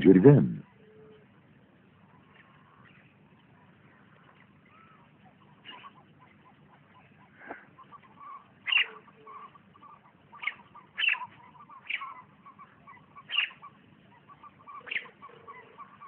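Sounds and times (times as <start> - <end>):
soft bird chirping: 0.6 - 16.0
short sharp bird calls: 2.1 - 16.0.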